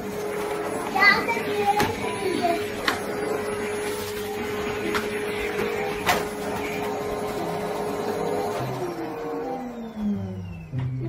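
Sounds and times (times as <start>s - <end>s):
vacuum cleaner humming: 0.0s - 11.0s.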